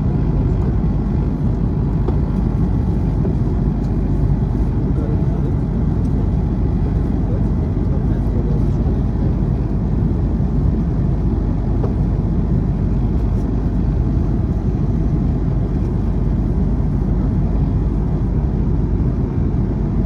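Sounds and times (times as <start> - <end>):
moving vehicle rumble from inside: 0.0 - 20.0.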